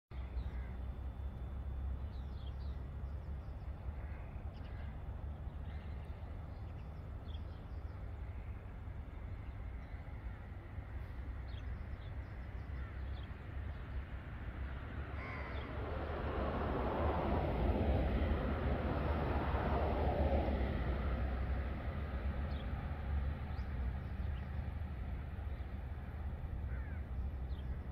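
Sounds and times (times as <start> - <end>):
steady low rumble: 0.1 - 27.9.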